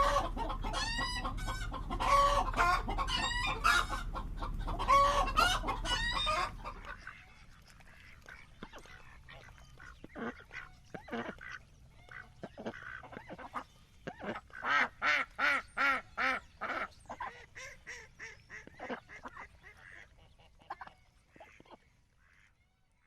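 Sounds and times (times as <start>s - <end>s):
ducks quacking: 0.0s - 22.6s.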